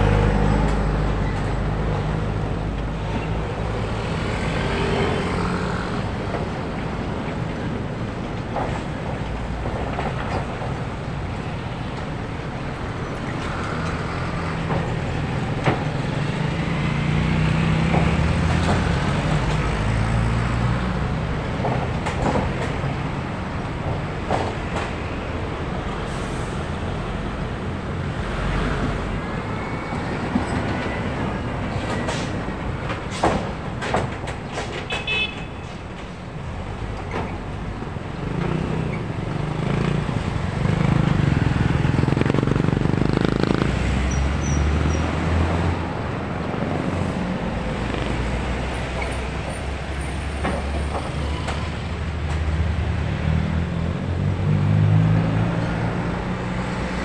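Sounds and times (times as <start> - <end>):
heavy engine: 0.0 - 57.0
road traffic passing: 0.0 - 57.0.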